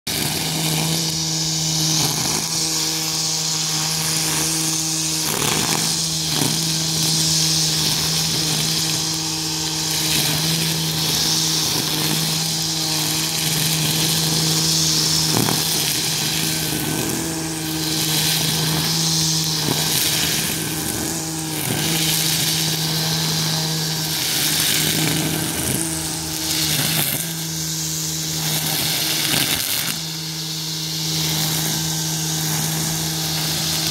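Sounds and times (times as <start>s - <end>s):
string trimmer cutting grass: 0.0s - 33.9s
trimmer line knocking thick clumps: 0.1s - 33.9s.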